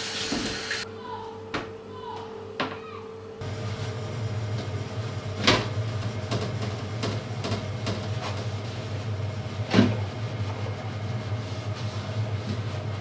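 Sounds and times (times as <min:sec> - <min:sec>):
low machine hum: 0:00.1 - 0:13.0.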